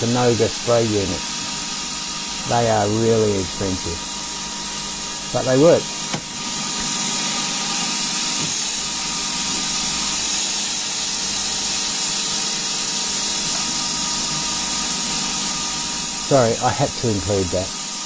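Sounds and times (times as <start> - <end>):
faint machine hum: 0.0 - 11.9, 12.5 - 18.0
hissing coolant spray: 0.0 - 18.0
metal lathe running: 0.0 - 18.0.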